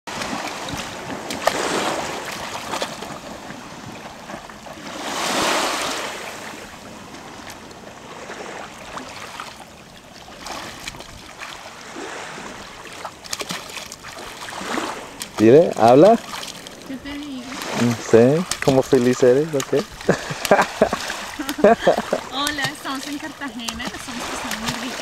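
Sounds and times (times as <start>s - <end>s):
small waves washing on sand: 0.1s - 25.0s.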